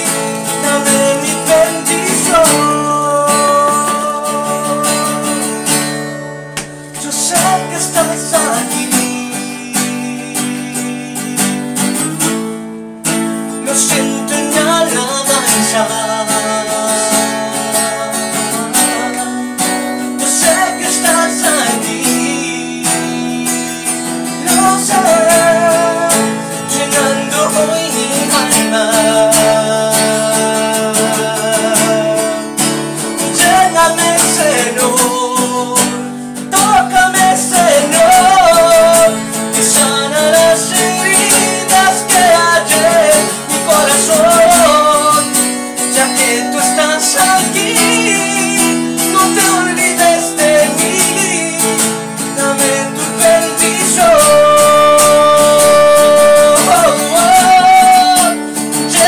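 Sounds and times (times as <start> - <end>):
man singing: 0.0 - 12.3, 13.5 - 59.0
acoustic guitar strummed: 0.0 - 59.0.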